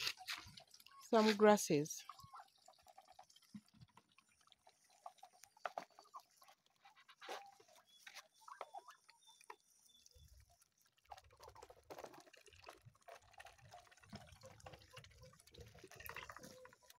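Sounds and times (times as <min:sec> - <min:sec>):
ducks' bills clicking and dabbling: 0:00.0 - 0:17.0.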